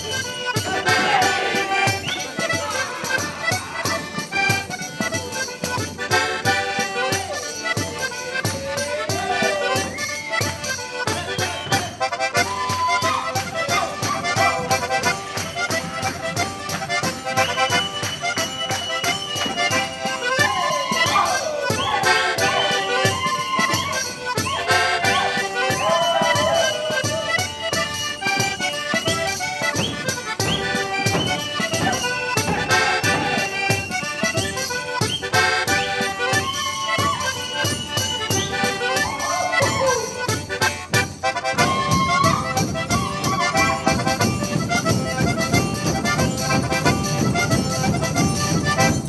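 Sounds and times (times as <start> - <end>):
accordion dance tune: 0.0 - 49.0
fast tambourine beat: 0.0 - 49.0.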